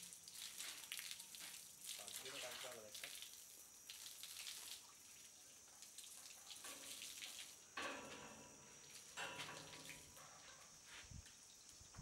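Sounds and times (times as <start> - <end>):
water spraying on wet floor: 0.0 - 10.2.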